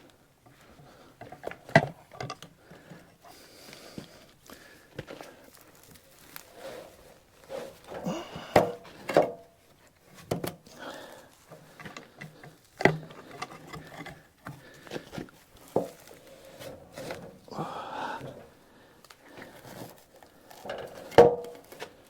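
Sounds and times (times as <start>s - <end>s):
log knocking and scraping: 0.6s - 18.5s, 19.3s - 22.0s.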